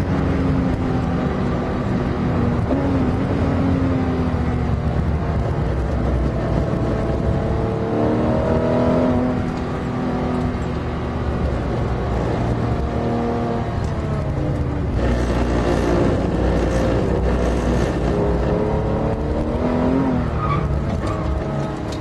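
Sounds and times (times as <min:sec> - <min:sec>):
car engine from inside cabin: 0:00.0 - 0:22.0.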